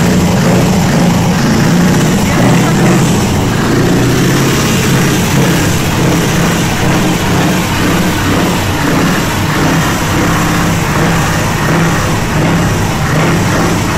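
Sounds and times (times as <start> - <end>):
truck engine running: 0.0 - 13.9.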